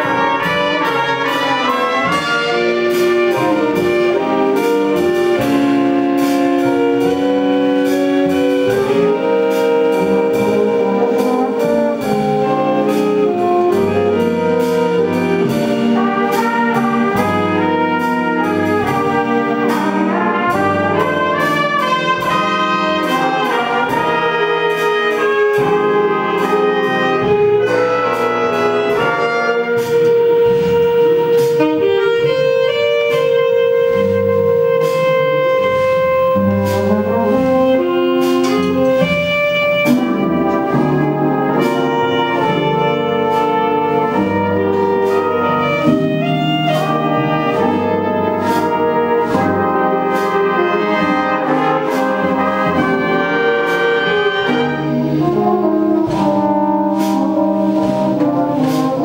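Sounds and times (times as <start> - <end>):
alto saxophone: 0.0 - 59.0
jazz band playing a slow ballad: 0.0 - 59.0.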